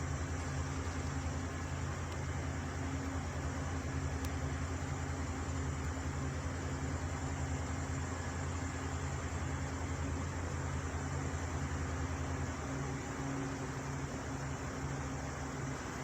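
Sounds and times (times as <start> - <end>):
distant truck engine drone: 0.0 - 16.0.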